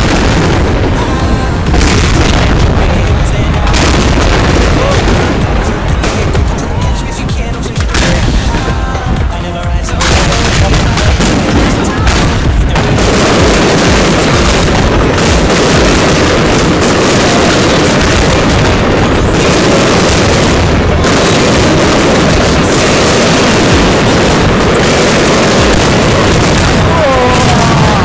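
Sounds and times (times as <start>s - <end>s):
fireworks exploding: 0.0s - 28.0s.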